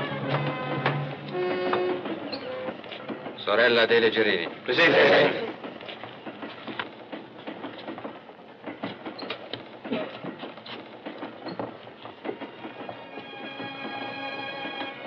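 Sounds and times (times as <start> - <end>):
train running: 0.0 - 15.0
train wheels clicking and knocking: 0.0 - 15.0.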